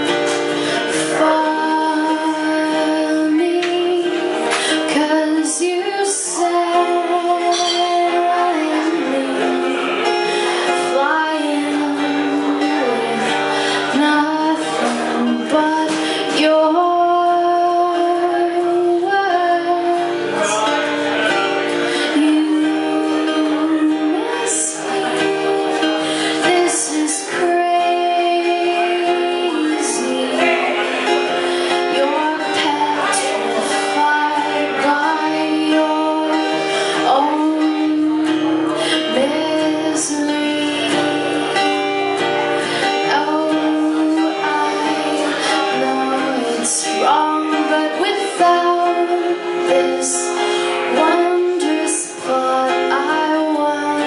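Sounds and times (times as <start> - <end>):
strummed guitar: 0.0 - 54.0
woman singing: 0.0 - 54.0.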